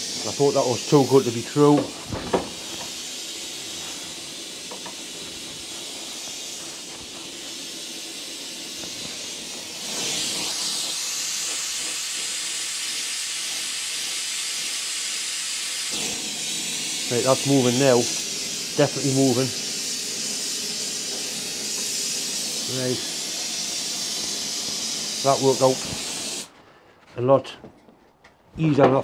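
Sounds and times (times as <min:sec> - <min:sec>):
gas torch hissing: 0:00.0 - 0:26.5.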